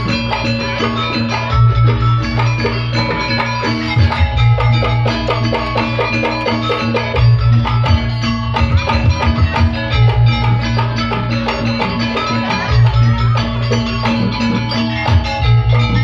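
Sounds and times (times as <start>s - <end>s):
gamelan drums and percussion: 0.0s - 16.0s.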